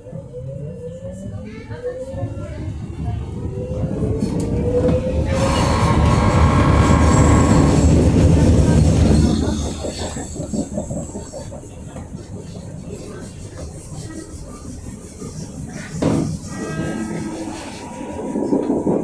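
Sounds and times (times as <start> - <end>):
rising train whine: 0.0 - 19.0
train rumbling and squealing: 0.0 - 19.0.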